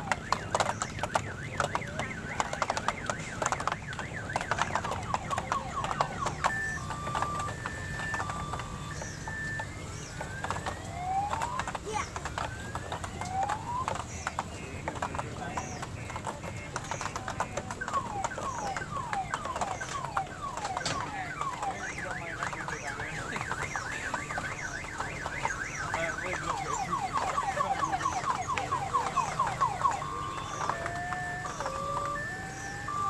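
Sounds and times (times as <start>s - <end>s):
electronic siren alarm: 0.0s - 33.0s
steady background din: 0.0s - 33.0s.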